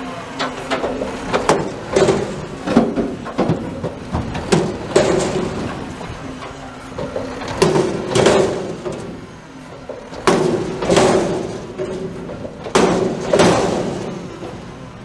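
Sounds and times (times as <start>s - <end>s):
garbage truck engine running: 0.0s - 15.0s
trash cart banging against hopper: 0.0s - 15.0s.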